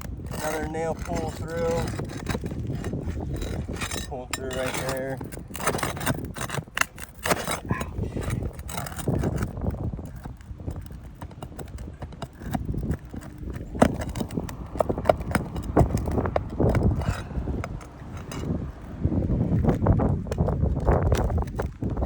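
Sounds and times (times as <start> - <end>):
knocks and scrapes on shingle roof: 0.0 - 22.0.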